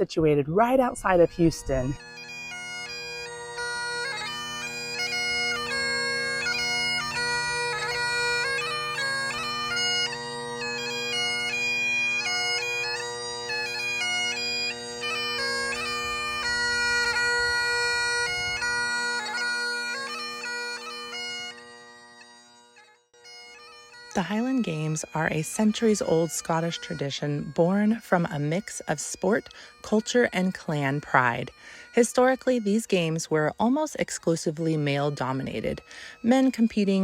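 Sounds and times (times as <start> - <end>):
bagpipe playing a tune: 0.0 - 37.0.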